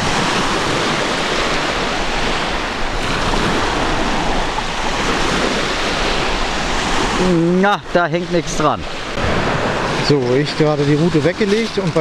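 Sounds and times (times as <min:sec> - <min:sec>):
surf washing onto beach: 0:00.0 - 0:12.0
wind on microphone: 0:00.0 - 0:12.0.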